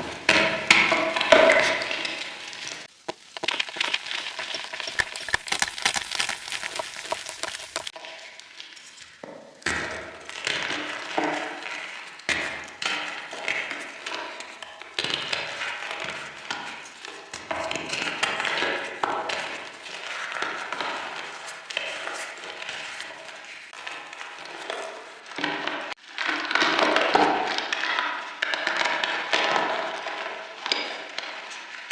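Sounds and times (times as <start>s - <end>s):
chalk crunching and crumbling: 0.0s - 25.6s.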